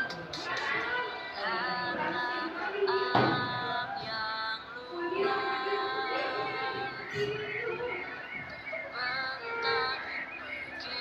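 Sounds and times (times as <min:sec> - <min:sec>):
song with singing and instruments: 0:00.0 - 0:11.0.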